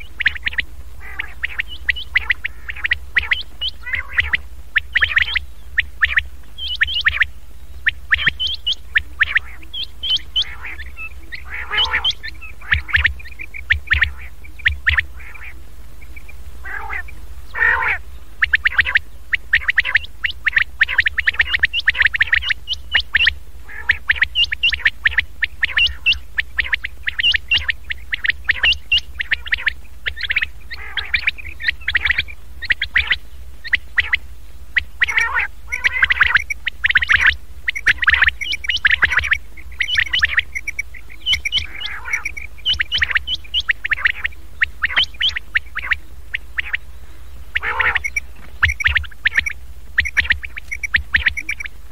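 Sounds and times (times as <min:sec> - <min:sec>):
quail calls: 0:00.0 - 0:51.9
steady low hum: 0:00.0 - 0:51.9.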